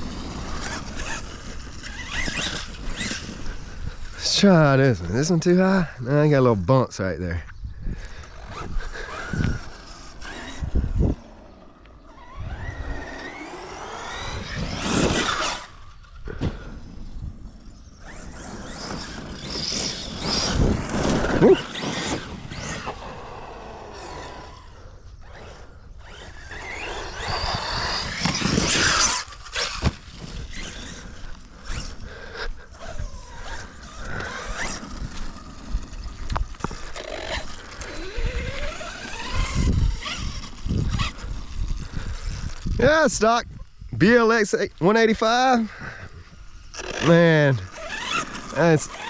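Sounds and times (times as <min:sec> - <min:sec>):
electric motor whining: 0:00.0 - 0:05.8, 0:07.5 - 0:44.2, 0:45.1 - 0:49.0.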